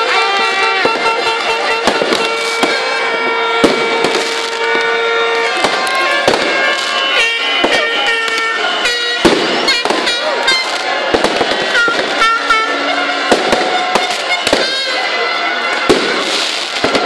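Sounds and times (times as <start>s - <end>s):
fireworks bursting and crackling: 0.0s - 17.0s
long steady tones: 0.0s - 17.0s.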